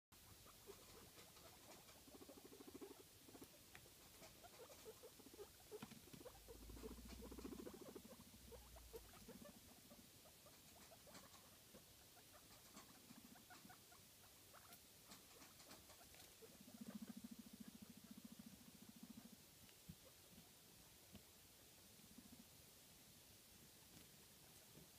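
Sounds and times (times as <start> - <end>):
guinea pigs rumbling: 0.1 - 24.9
guinea pig squeaks: 0.2 - 20.5.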